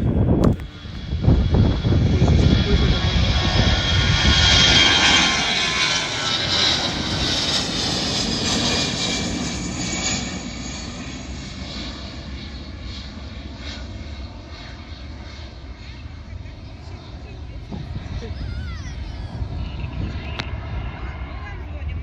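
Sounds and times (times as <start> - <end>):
jet engines passing: 0.0 - 22.0.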